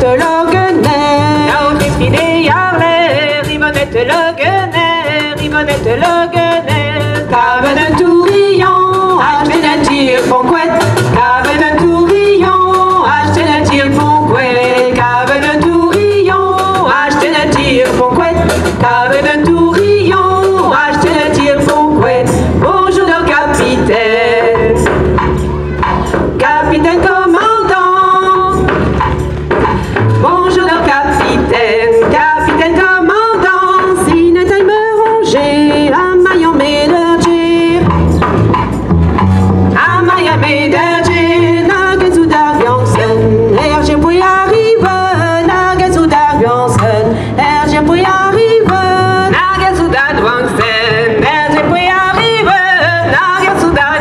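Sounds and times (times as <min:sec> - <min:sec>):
women singing: 0:00.0 - 0:38.4, 0:39.7 - 0:54.0
drum kit: 0:00.0 - 0:54.0
upright double bass: 0:00.0 - 0:54.0.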